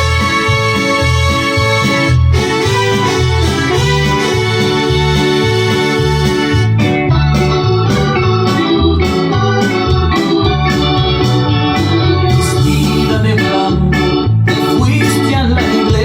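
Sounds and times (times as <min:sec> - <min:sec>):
electronic organ tune: 0:00.0 - 0:16.0.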